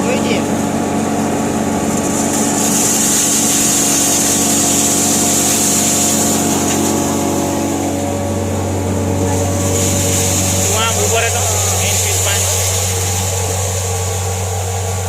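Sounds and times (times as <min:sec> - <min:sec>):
hammer mill grinding: 0:00.0 - 0:15.0.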